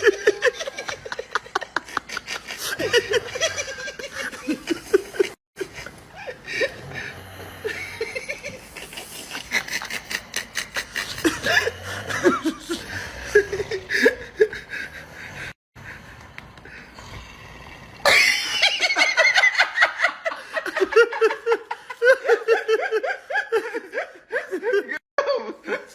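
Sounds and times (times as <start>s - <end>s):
people laughing and snickering: 0.0s - 16.9s, 18.0s - 25.9s.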